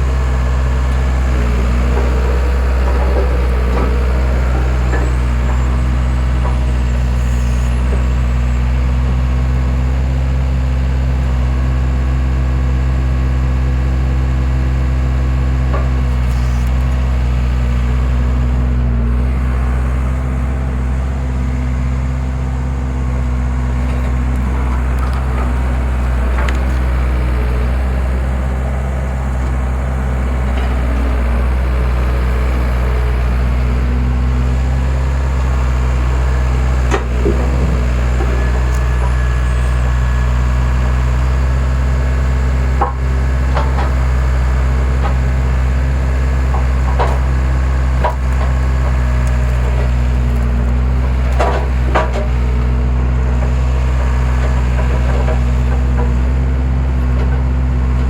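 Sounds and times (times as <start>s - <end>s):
skid steer engine running: 0.0s - 58.0s.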